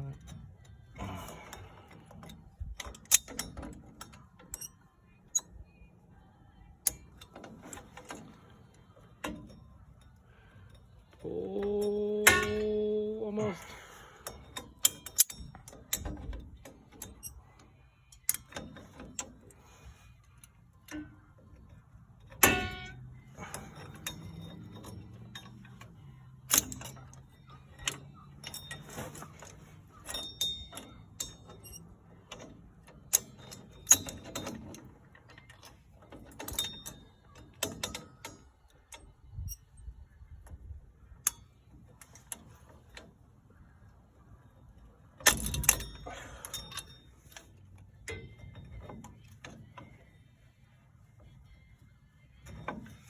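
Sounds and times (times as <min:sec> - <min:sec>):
metallic clicks of pliers and springs: 0:00.0 - 0:05.8, 0:06.5 - 0:43.8, 0:44.6 - 0:50.2, 0:52.2 - 0:53.0.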